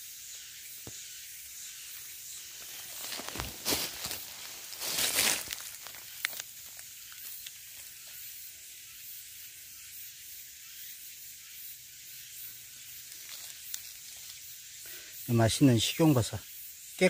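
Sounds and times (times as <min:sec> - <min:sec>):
high hiss of outdoor ambience: 0:00.0 - 0:17.0.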